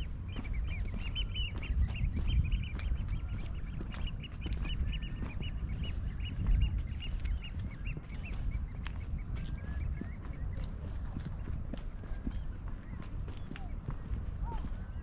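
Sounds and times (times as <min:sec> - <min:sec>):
flock of birds calling: 0:00.0 - 0:15.0
steady low rumble: 0:00.0 - 0:15.0.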